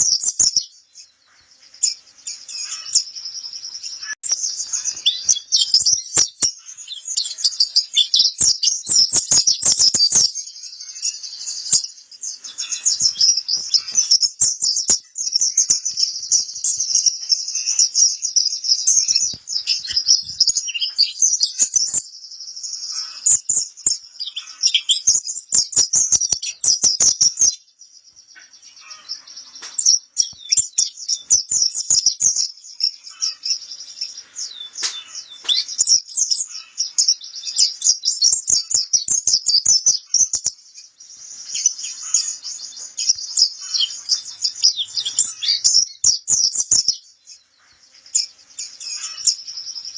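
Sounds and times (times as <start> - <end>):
bird twittering song: 0.0 - 49.9.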